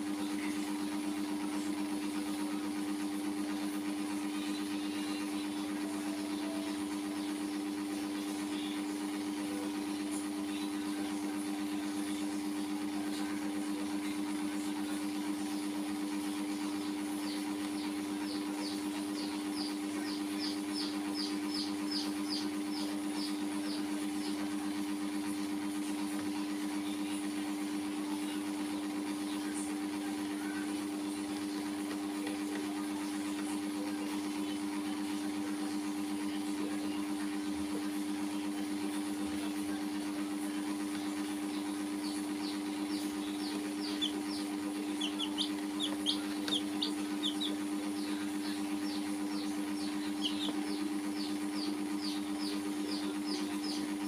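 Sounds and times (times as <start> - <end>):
steady loud hum: 0.0 - 54.0
baby chicks peeping: 0.2 - 54.0.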